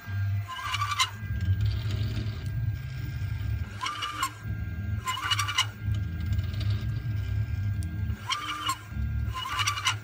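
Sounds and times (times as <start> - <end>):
steady low hum: 0.0 - 10.0
stepper motors whining: 0.0 - 10.0.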